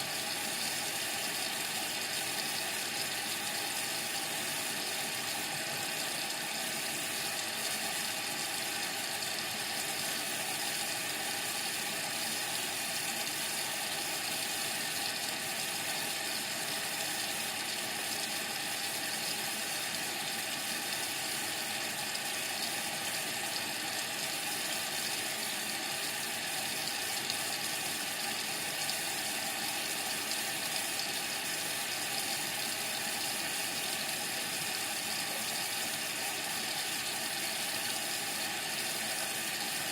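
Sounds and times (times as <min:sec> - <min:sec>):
water running into washing machine: 0:00.0 - 0:39.9.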